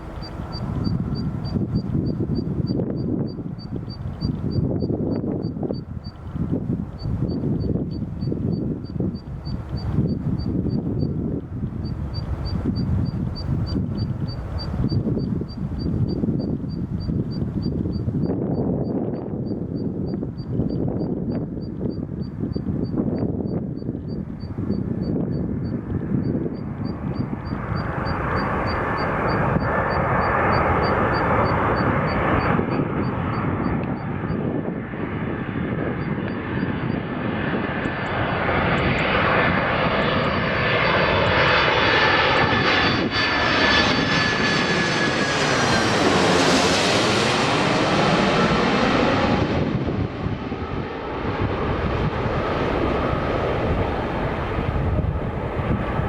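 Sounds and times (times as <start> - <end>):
high jet whine: 0.0 - 56.0
jet engines passing low: 0.0 - 56.0.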